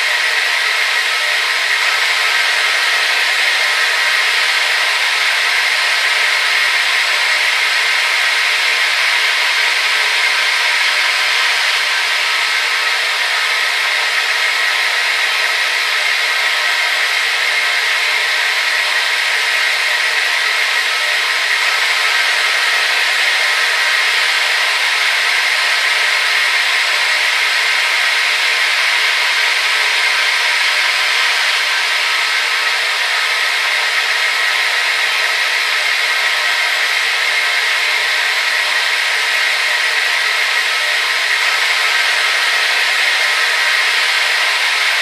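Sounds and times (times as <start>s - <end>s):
hair dryer running: 0.0s - 45.0s.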